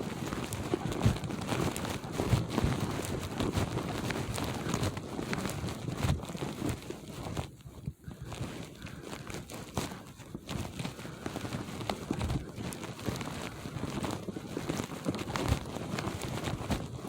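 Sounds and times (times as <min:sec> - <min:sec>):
clothing rustling: 0:00.0 - 0:17.0.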